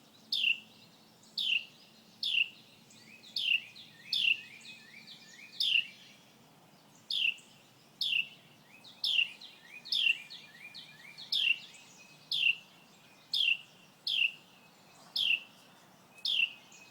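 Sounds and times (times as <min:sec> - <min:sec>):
songbird singing: 0:00.0 - 0:16.9.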